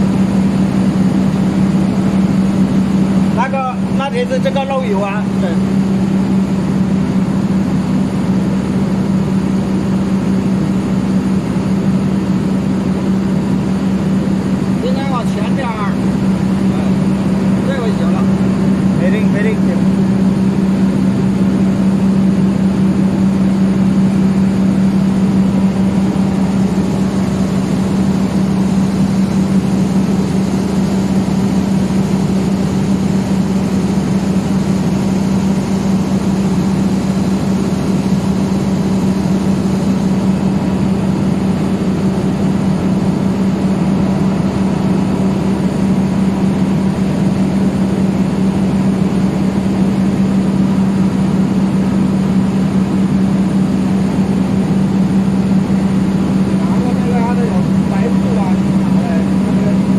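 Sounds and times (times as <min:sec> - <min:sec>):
machinery droning: 0:00.0 - 0:59.9.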